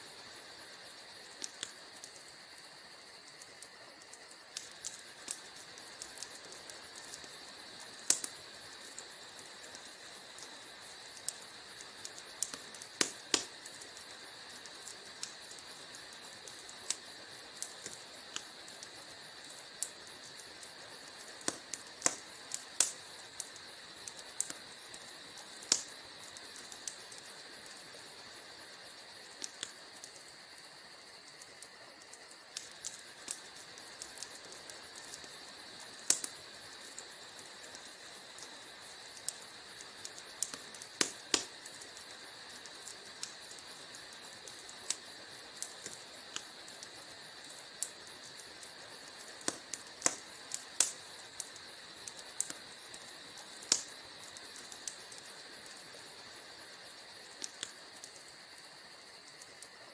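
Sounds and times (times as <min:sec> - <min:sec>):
fire hissing: 0:00.0 - 0:59.9
wood fire pops and snaps: 0:00.0 - 0:59.9.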